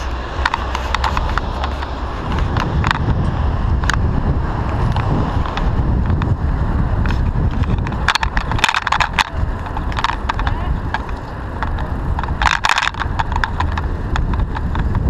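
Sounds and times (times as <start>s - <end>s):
bicycle clicks and rattles: 0.0s - 15.0s
wind rumbling on microphone: 0.0s - 15.0s.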